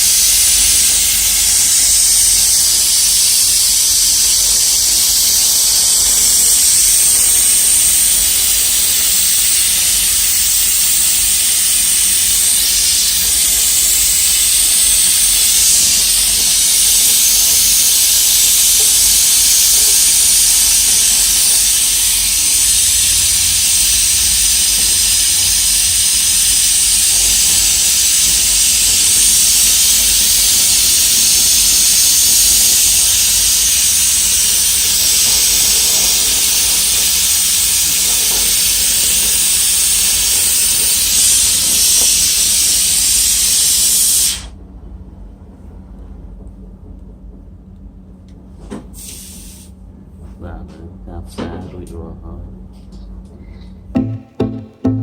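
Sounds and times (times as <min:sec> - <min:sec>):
pressurised gas hissing: 0:00.0 - 0:44.6, 0:48.8 - 0:49.8.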